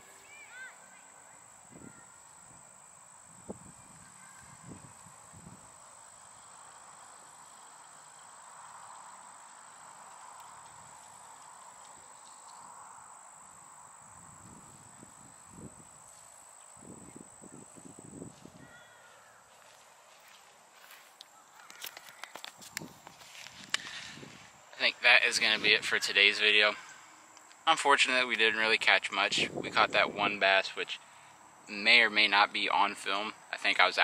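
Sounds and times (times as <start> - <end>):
soft hiss: 0.0 - 18.6, 19.2 - 34.0
insect chorus trilling: 0.0 - 34.0.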